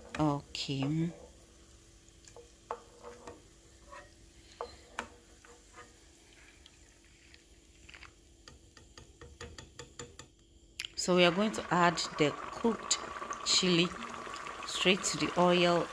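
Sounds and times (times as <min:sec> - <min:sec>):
faint oil sizzle: 0:00.0 - 0:08.3, 0:10.9 - 0:15.9.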